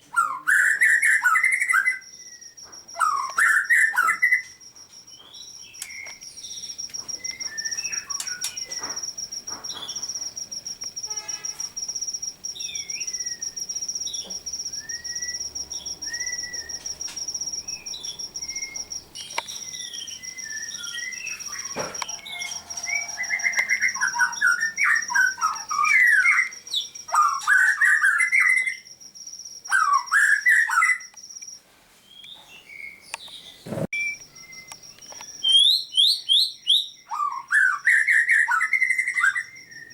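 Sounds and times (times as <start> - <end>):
songbirds chirping: 0.0 - 11.5, 12.2 - 28.9, 32.0 - 39.9.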